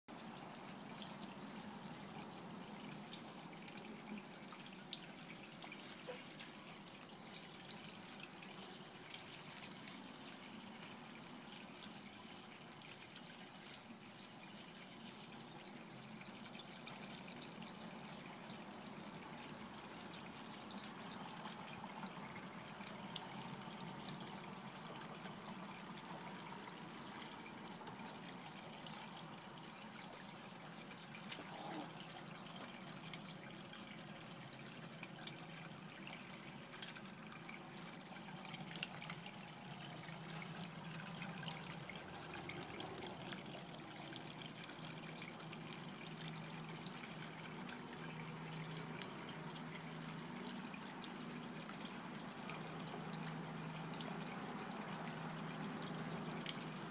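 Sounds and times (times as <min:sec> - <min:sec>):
water trickling from fountain: 0:00.1 - 0:56.9.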